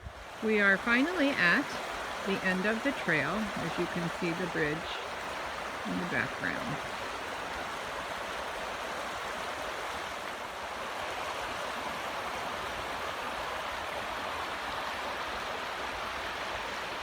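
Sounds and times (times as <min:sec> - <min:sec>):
flowing creek rushing: 0:00.0 - 0:17.0.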